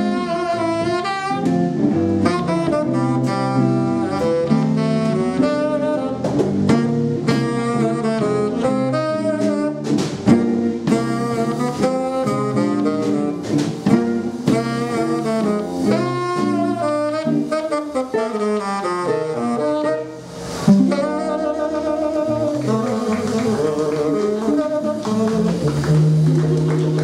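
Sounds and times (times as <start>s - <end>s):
drum kit: 0.0s - 27.0s
electric guitar: 0.0s - 27.0s
tenor saxophone: 0.0s - 27.0s
upright double bass: 0.0s - 27.0s.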